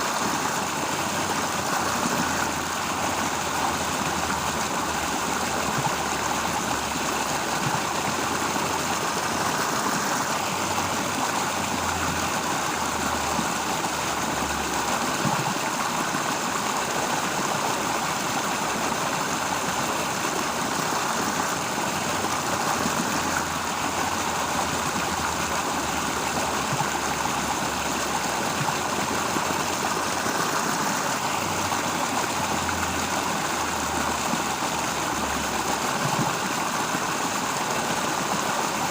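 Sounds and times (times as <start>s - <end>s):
rushing outdoor ambience: 0.0s - 38.9s.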